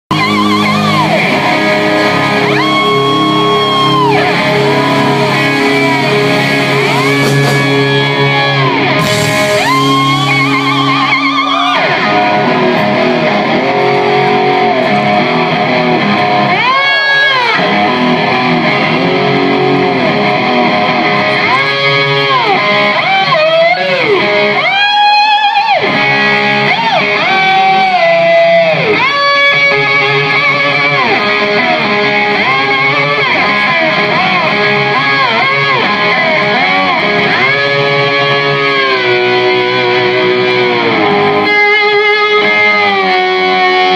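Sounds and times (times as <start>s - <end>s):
electric slide guitar swooping: 0.1s - 43.9s
live rock music: 0.1s - 43.9s.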